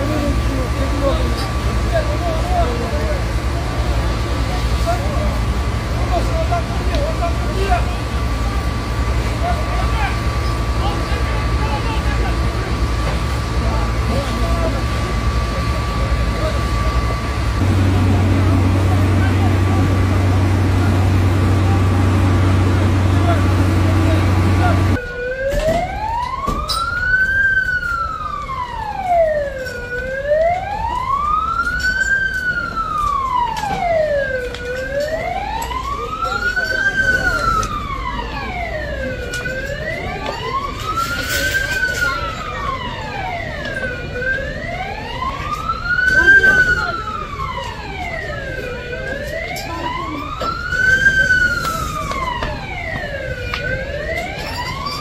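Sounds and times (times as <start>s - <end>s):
siren wailing: 4.8s - 55.0s.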